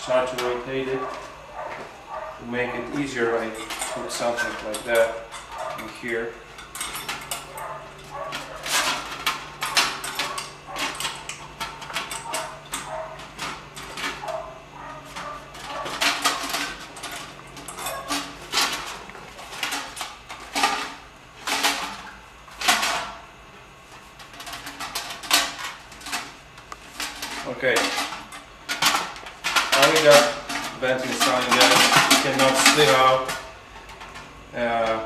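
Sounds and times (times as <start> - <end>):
metallic clattering and scraping: 0.0 - 23.2, 23.9 - 35.0.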